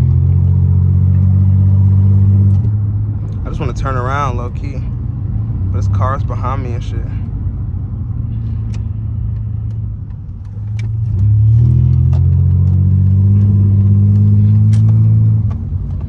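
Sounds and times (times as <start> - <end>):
car exhaust droning: 0.0 - 16.0.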